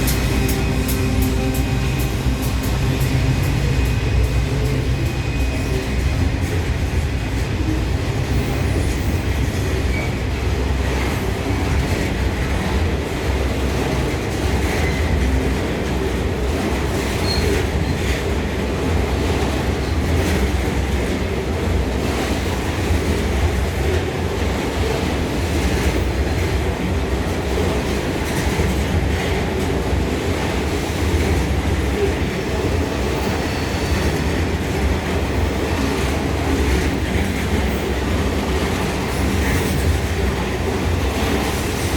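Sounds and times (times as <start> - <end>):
train wagons rumbling on rails: 0.0 - 41.9.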